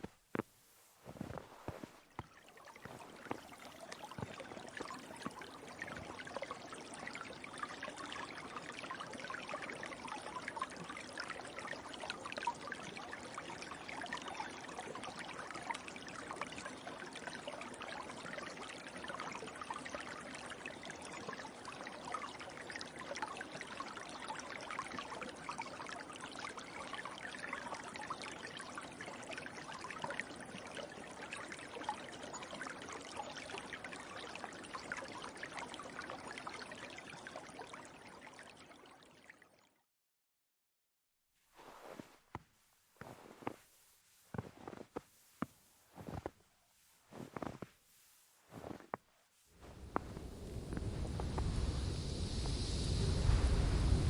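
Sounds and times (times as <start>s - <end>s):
river water flowing: 1.0s - 39.4s, 44.3s - 53.5s.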